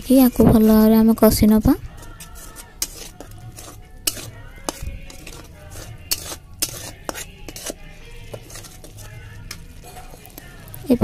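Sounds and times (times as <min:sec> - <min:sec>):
spoon scraping pan: 0:00.0 - 0:11.0.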